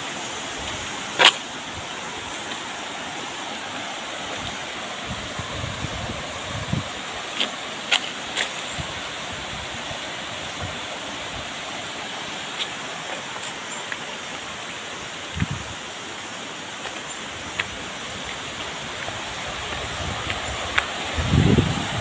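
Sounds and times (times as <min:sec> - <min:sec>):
footsteps on leafy path: 0:00.0 - 0:09.3, 0:11.6 - 0:22.0
stream and waterfall rushing: 0:00.0 - 0:22.0.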